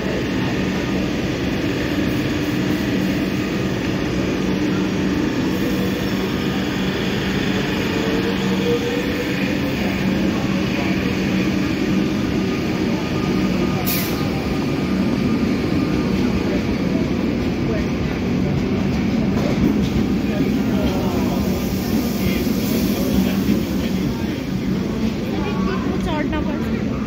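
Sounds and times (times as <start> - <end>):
electric train hum: 0.0 - 27.0.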